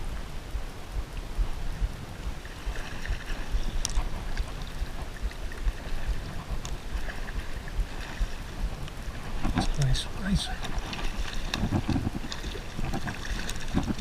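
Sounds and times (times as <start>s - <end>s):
water lapping along shore: 0.0s - 14.0s
wind rumbling on microphone: 0.0s - 14.0s.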